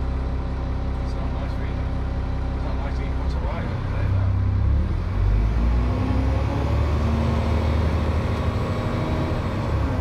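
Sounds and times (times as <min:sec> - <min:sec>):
bus diesel engine rumbling: 0:00.0 - 0:10.0.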